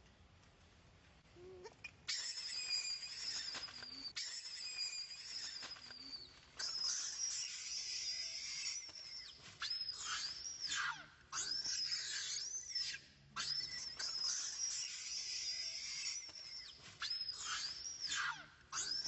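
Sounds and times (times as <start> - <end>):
baby monkey screaming: 2.1 - 19.0.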